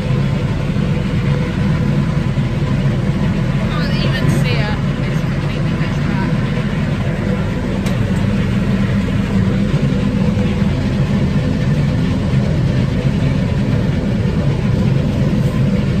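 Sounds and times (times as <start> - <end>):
boat engine low rumble: 0.0 - 16.0.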